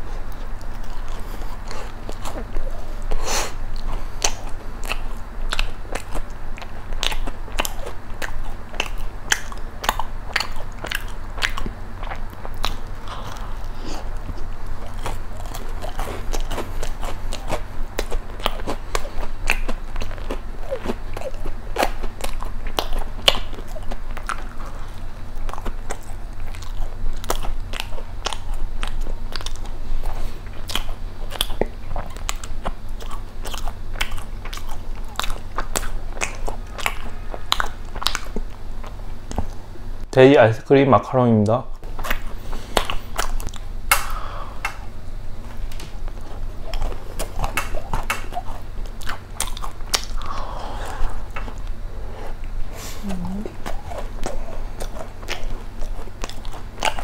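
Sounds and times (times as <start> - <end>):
person chewing crunchy food: 0.0 - 40.0, 41.8 - 57.0.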